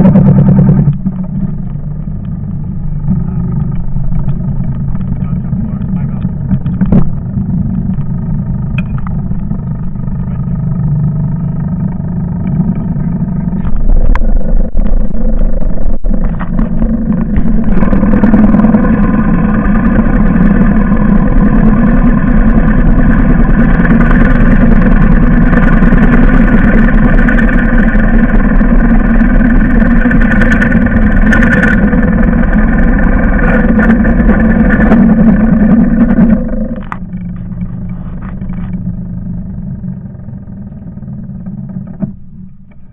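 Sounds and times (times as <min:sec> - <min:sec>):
farm machinery engine running: 0:00.0 - 0:42.9.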